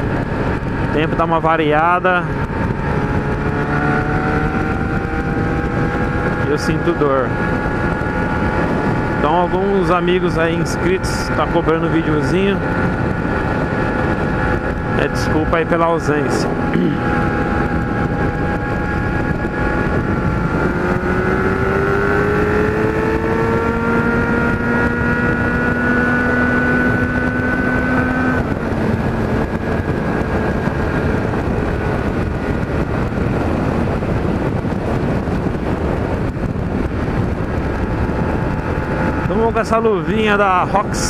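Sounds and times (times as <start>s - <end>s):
motorcycle engine accelerating: 0.0s - 41.0s
wind and road noise: 0.0s - 41.0s.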